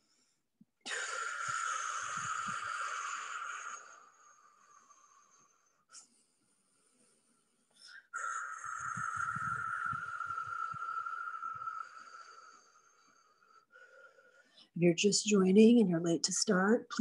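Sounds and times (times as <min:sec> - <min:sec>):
breath blown through pursed lips: 0:00.0 - 0:14.8.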